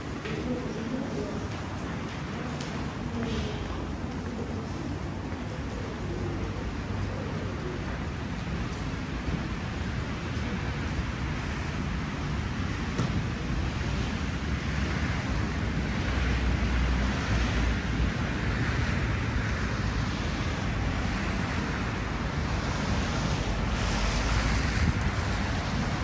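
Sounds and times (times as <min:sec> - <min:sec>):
moving vehicles roaring: 0:00.0 - 0:26.0.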